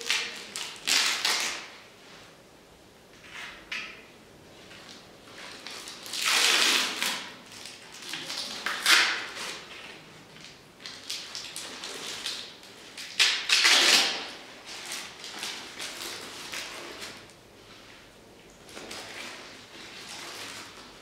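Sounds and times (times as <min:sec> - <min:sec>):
plastic film crinkling: 0:00.0 - 0:01.7, 0:04.9 - 0:17.4, 0:18.0 - 0:21.0.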